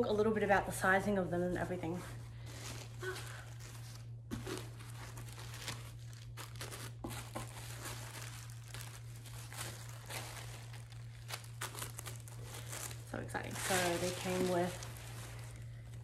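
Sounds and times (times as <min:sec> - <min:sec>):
tissue paper rustling: 0:01.4 - 0:16.0.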